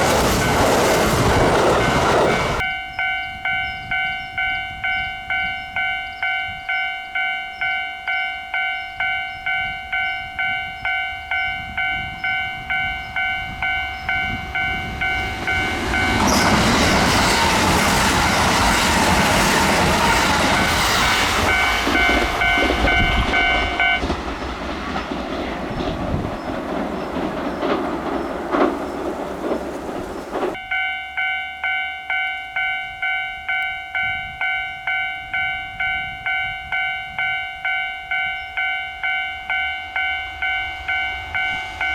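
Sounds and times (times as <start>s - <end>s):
train passing with rushing wheels: 0.0s - 31.3s, 32.6s - 41.9s
level crossing warning bell: 0.0s - 41.9s.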